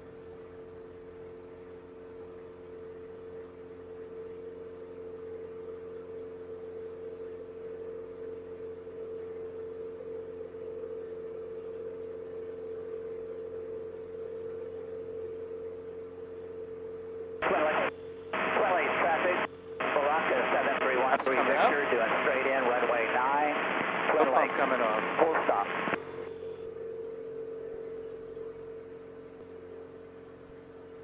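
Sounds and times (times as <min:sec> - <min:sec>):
light airplane engine and propeller: 0:00.0 - 0:31.0.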